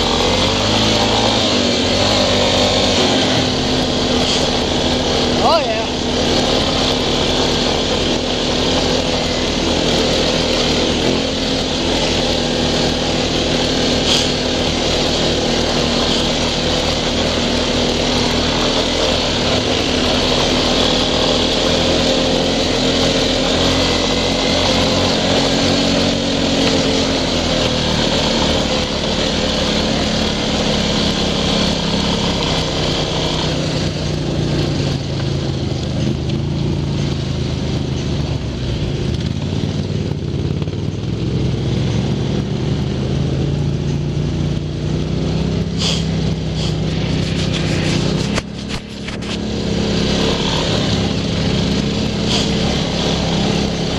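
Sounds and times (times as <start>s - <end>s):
quad bike engine running: 0.0s - 53.9s.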